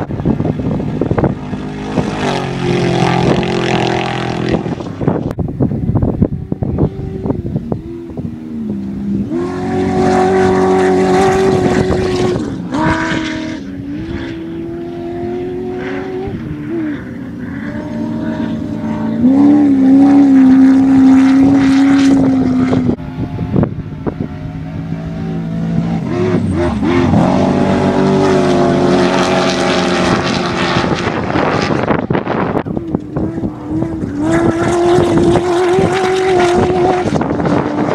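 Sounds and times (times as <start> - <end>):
race vehicle engines revving: 0.0 - 37.9.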